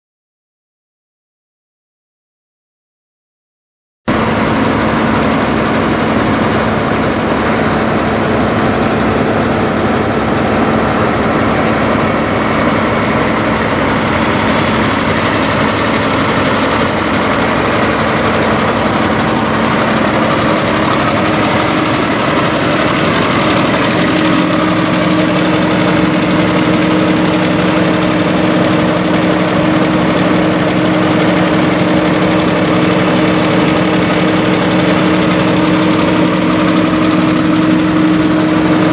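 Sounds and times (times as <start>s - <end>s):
diesel engine idling: 4.1s - 38.9s.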